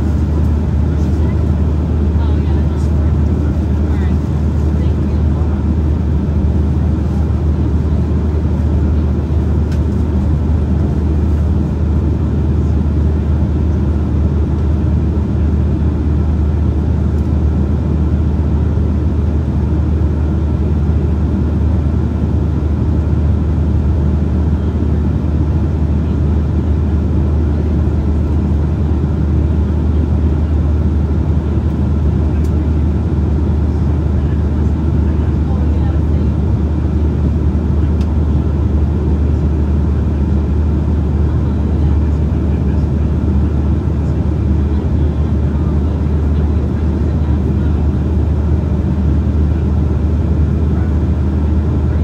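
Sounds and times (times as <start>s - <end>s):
airliner engine drone: 0.0s - 52.0s.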